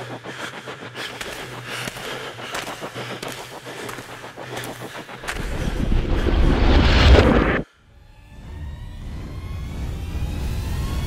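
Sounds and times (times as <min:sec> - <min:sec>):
low rumbling drone: 0:00.0 - 0:11.0.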